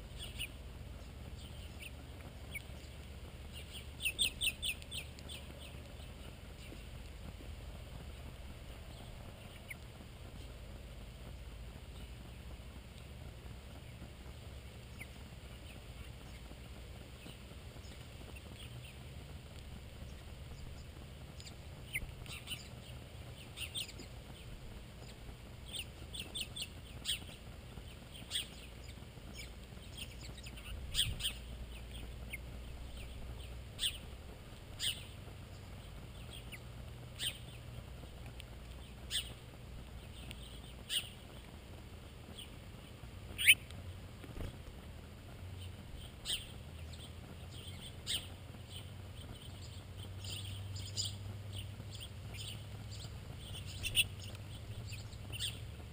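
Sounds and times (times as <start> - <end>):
faint low hum: 0.0 - 55.9
songbirds chirping: 0.0 - 55.9.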